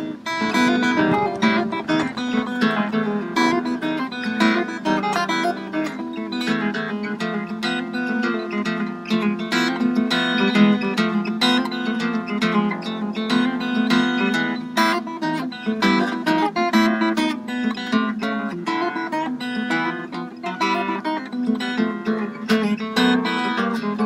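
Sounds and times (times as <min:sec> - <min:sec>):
fingerpicked harp guitar melody: 0:00.0 - 0:24.0.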